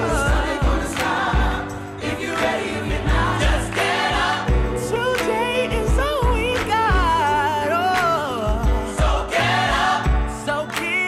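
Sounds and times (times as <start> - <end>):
pop song with sung vocals: 0.0 - 11.0.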